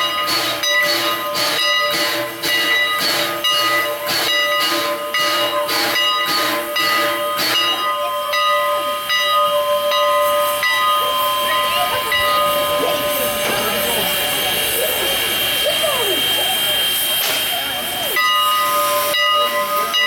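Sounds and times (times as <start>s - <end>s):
steam hiss: 0.0s - 20.0s
steam locomotive chuffing: 0.0s - 20.0s.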